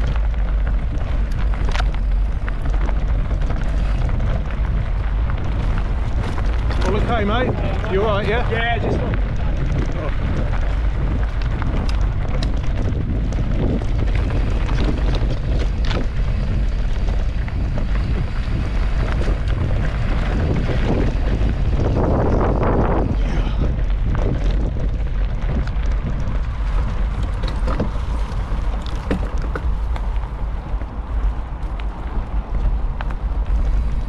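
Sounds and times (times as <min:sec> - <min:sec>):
bike clicks and rattles: 0:00.0 - 0:34.0
tyres rumbling on dirt trail: 0:00.0 - 0:34.0
wind buffeting microphone: 0:00.0 - 0:34.0.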